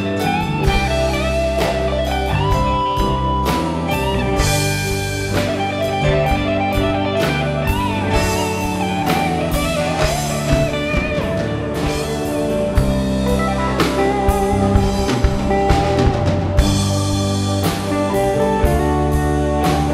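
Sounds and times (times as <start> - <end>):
bass guitar: 0.0 - 19.9
drum kit steady beat: 0.0 - 19.9
electric guitar bent notes: 0.0 - 19.9.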